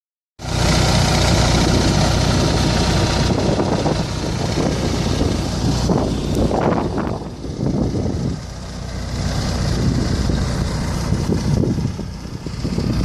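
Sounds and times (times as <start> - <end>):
generator humming: 0.4 - 13.0.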